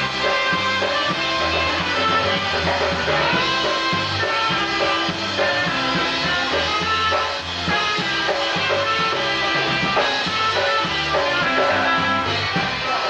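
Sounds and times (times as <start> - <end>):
polka band playing: 0.0 - 13.0.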